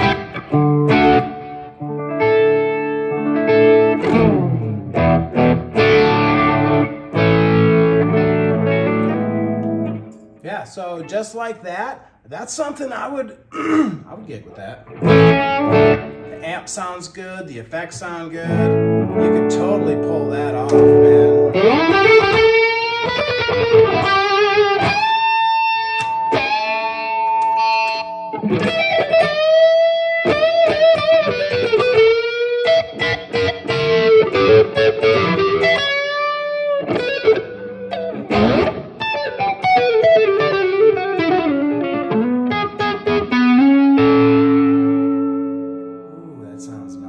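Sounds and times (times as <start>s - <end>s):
overdriven electric guitar lead: 0.0s - 10.4s, 14.8s - 16.4s, 18.4s - 47.0s.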